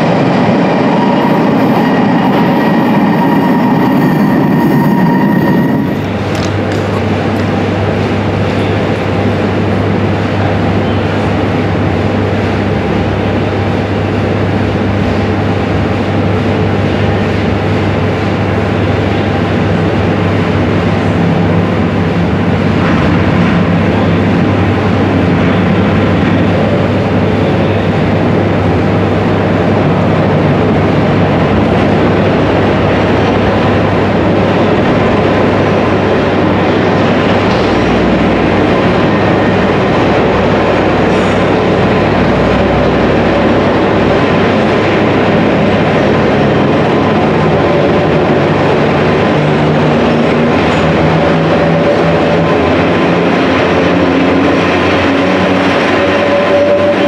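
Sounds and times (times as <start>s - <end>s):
train wheels rumbling in tunnel: 0.0s - 57.0s.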